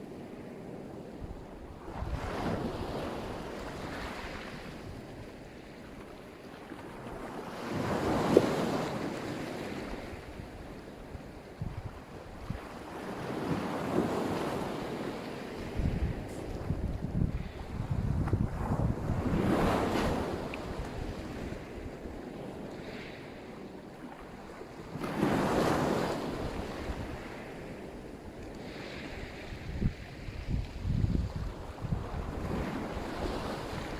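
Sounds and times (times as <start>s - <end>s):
sea waves washing onto shore: 0.0s - 33.9s
wind buffeting microphone: 0.7s - 5.5s, 7.2s - 23.1s, 25.0s - 28.4s, 29.0s - 33.9s.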